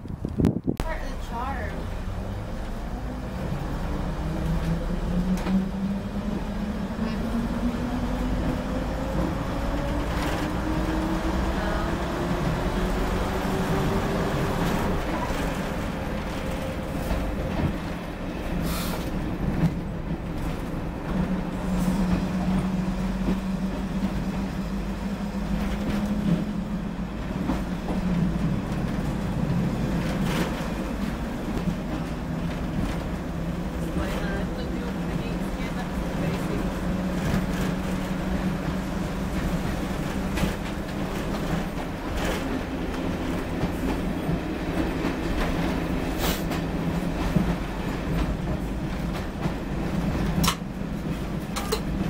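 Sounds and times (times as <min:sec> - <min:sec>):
train running: 0:00.0 - 0:52.0.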